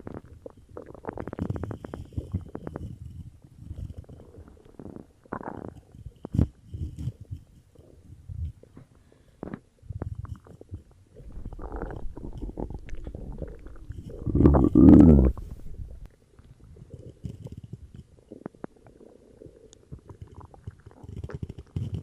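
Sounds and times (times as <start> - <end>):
stomach gurgling and rumbling: 0.0 - 22.0.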